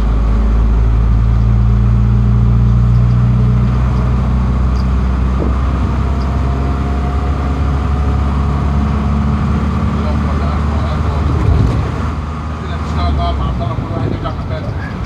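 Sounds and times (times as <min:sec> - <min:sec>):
road noise: 0:00.0 - 0:15.0
vehicle engine hum: 0:00.0 - 0:15.0.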